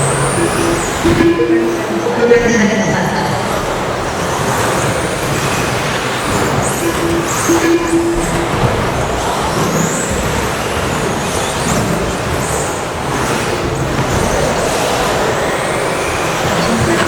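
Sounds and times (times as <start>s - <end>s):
tyre and drivetrain noise: 0.0s - 17.0s.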